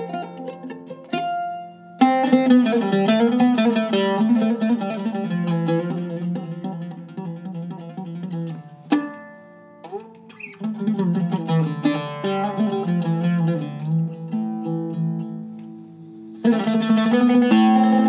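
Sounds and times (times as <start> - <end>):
oud plucked notes: 0.0 - 18.0.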